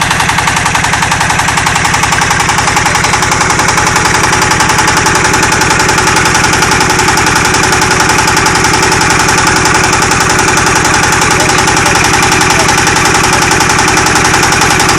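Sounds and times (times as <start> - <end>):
diesel engine running steadily: 0.0 - 14.9.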